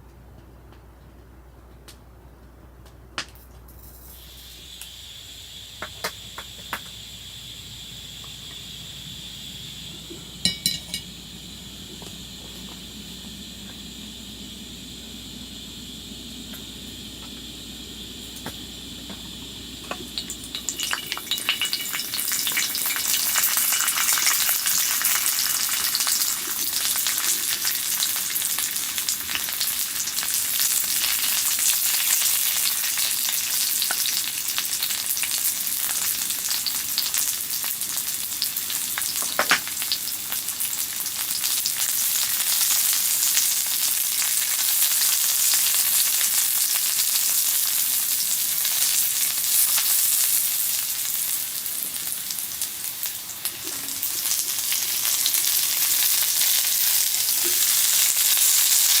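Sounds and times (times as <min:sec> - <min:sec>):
food sizzling in a pan: 0:04.0 - 0:11.7, 0:16.7 - 0:59.0.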